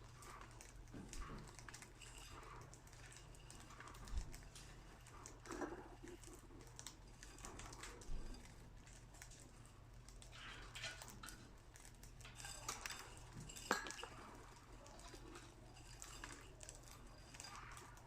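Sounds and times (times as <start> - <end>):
beaks pecking seed in dish: 0.0 - 18.0.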